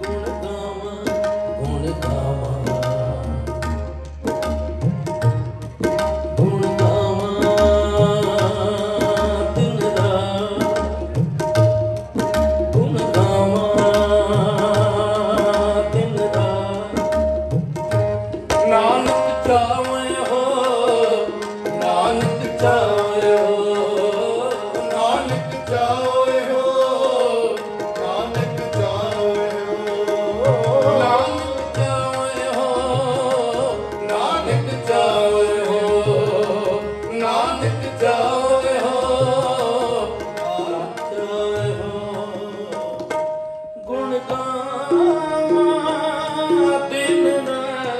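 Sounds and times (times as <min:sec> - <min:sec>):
harmonium: 0:00.0 - 0:47.9
tabla drumming: 0:00.0 - 0:47.9.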